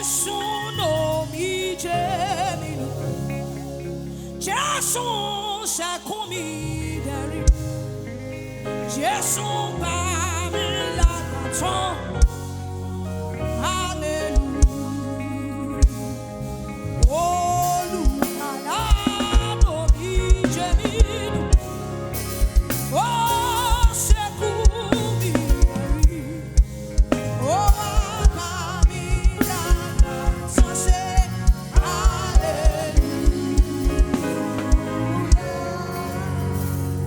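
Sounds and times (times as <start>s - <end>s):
lead voice singing with vibrato: 0.0s - 8.2s, 8.9s - 37.0s
keyboard chords: 0.0s - 37.0s.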